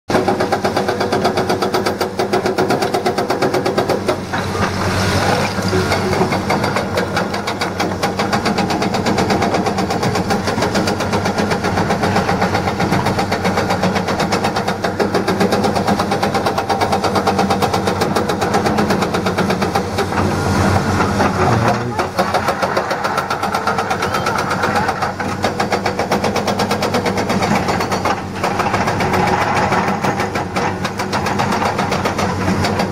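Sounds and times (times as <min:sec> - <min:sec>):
diesel engines running: 0:00.1 - 0:32.9
hydraulic breaker hammering rock: 0:00.1 - 0:32.9.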